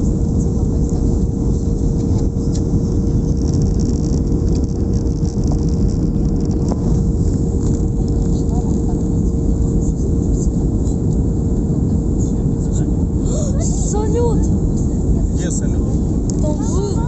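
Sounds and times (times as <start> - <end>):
constant hum: 0.0 - 17.0
jet engine and airflow roar: 0.0 - 17.0.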